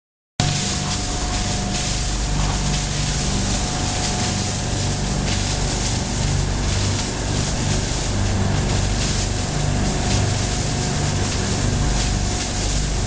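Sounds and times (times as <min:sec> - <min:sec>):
ice pouring from chute: 0:00.4 - 0:13.0.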